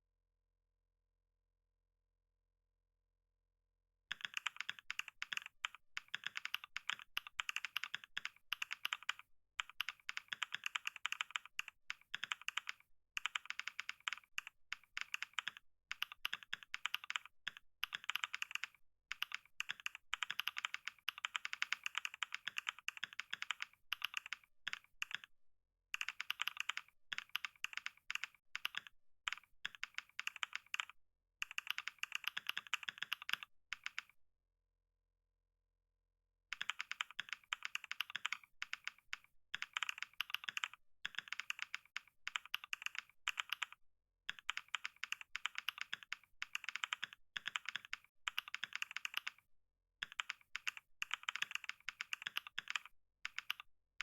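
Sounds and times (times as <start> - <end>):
fast typing on keyboard: 4.1 - 25.3, 26.0 - 34.2, 36.5 - 53.7.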